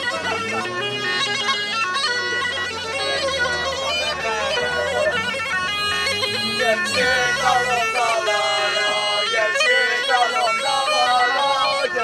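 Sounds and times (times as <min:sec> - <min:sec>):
bagpipe playing dance tune: 0:00.0 - 0:12.0.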